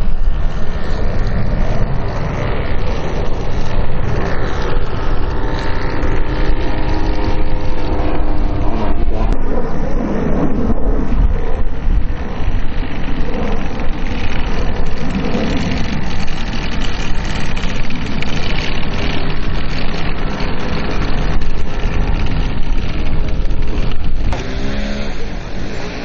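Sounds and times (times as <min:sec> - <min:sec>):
model airplane engine running: 0:00.0 - 0:26.0
wind rumble on microphone: 0:00.0 - 0:26.0.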